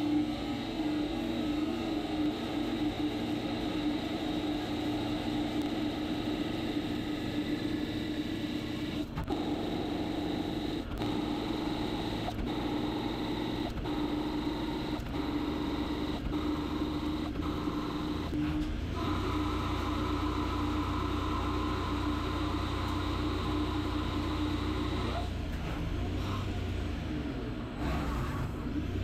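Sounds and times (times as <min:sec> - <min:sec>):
high-pitched machine whine: 0:00.0 - 0:25.3
machine tool steady tone: 0:00.0 - 0:25.3.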